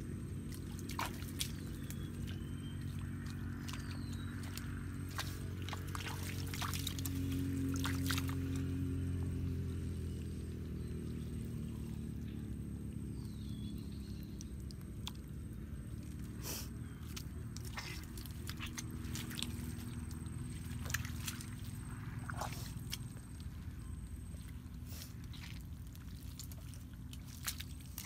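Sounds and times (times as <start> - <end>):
low steady drone: 0.0 - 28.0
wet mud squelching: 0.0 - 28.0.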